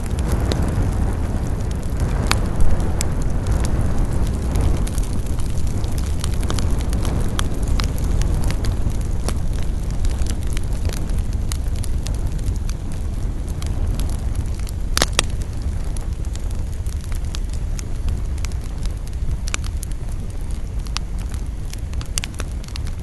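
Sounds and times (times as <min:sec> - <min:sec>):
campfire crackling and popping: 0:00.0 - 0:23.0
low rumble of burning fire: 0:00.0 - 0:23.0.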